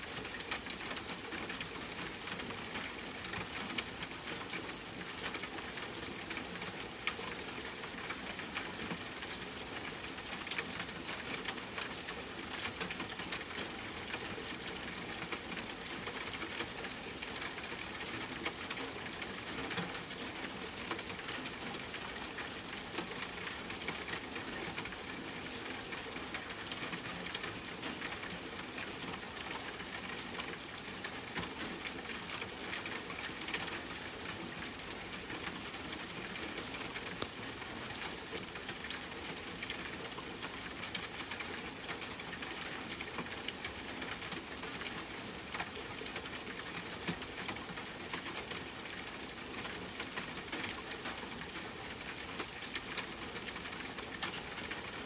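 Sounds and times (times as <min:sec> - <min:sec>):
steady rain hiss: 0:00.0 - 0:55.0
raindrops ticking on hard surface: 0:00.1 - 0:55.0.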